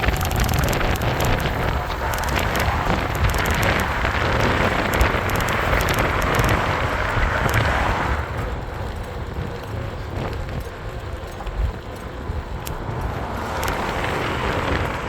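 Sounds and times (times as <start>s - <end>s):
bike tyre noise: 0.0s - 15.0s
wind rushing over microphone: 0.0s - 15.0s.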